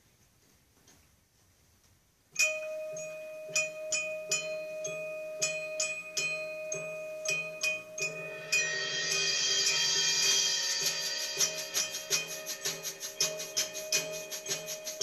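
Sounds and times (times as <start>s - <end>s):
marimba and vibraphone playing: 2.4s - 15.0s.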